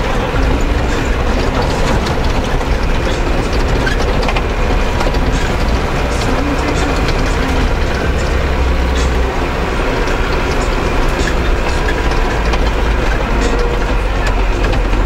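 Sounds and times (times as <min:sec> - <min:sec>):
low engine and road rumble: 0:00.0 - 0:15.0
vehicle body rattling: 0:00.0 - 0:15.0.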